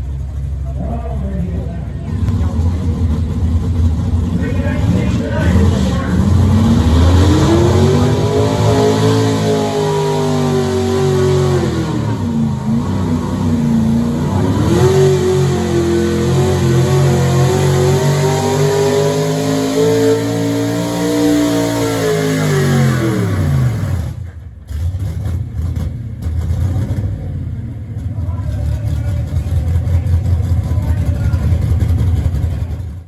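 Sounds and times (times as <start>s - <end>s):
pulling truck engine revving: 0.0s - 33.0s.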